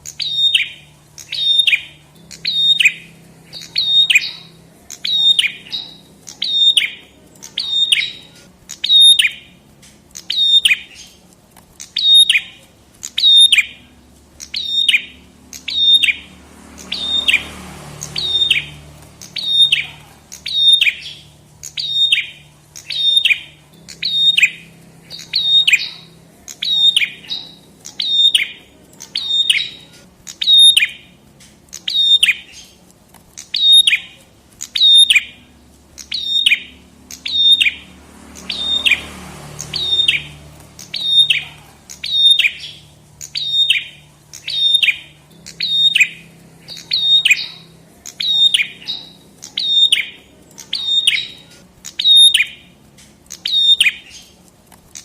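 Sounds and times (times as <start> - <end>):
bird singing sharp call: 0.0 - 9.6, 10.2 - 11.2, 11.8 - 31.2, 31.8 - 32.8, 33.4 - 54.4.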